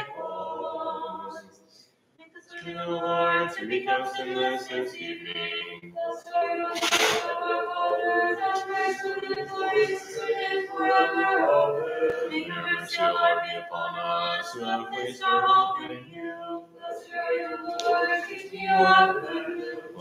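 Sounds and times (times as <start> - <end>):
voices singing unaccompanied chant: 0.0 - 1.7, 2.4 - 20.0.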